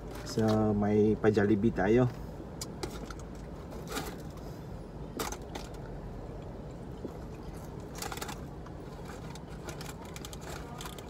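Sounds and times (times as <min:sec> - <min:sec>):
low car cabin hum: 0:00.0 - 0:11.0.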